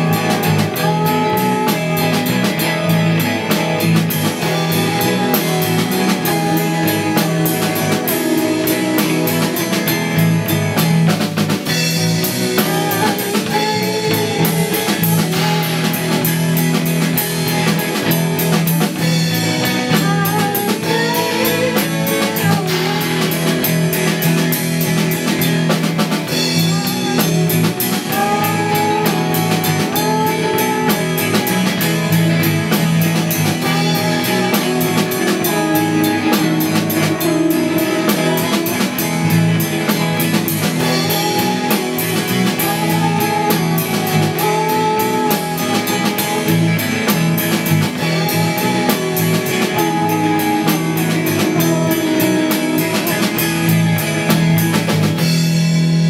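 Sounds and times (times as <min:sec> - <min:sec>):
drum kit beat: 0:00.0 - 0:56.0
electric bass: 0:00.0 - 0:56.0
electric guitars: 0:00.0 - 0:56.0
rock band playing live: 0:00.0 - 0:56.0.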